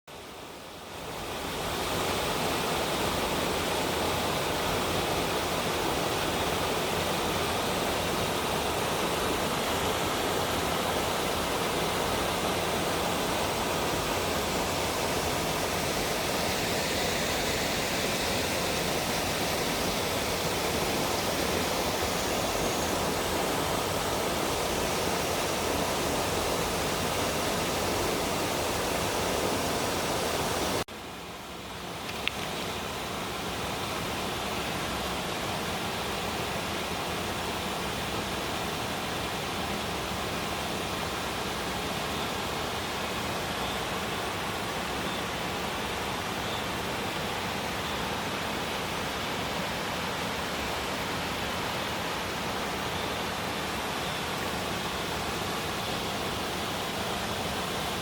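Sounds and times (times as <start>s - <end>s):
stream rushing over rocks: 0.1s - 58.0s.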